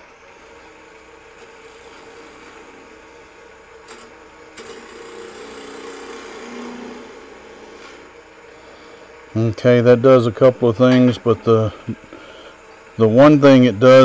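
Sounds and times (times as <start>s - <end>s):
lathe motor hum: 0.0s - 14.0s.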